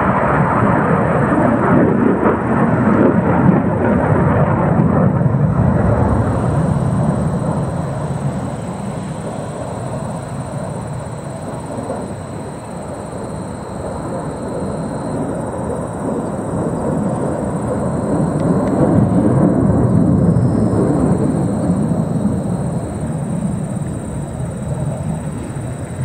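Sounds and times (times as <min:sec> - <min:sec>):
distant jet rumble: 0:00.0 - 0:26.0.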